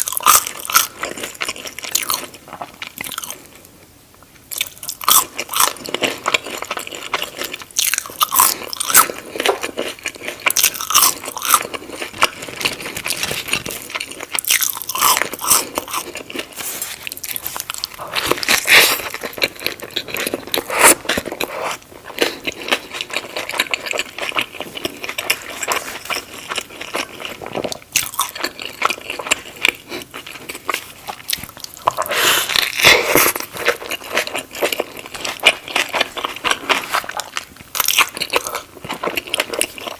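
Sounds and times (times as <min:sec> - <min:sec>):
crunchy bites: 0:04.5 - 0:39.9
wet chewing: 0:04.5 - 0:39.9.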